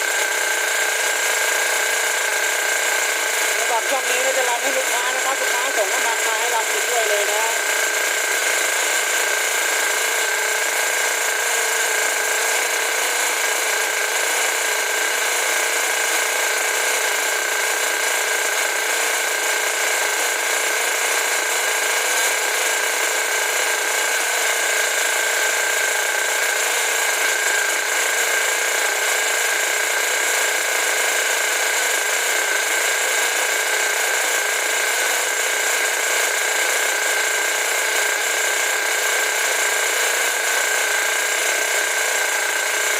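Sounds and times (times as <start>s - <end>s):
high-pitched engine buzz: 0.0s - 42.9s.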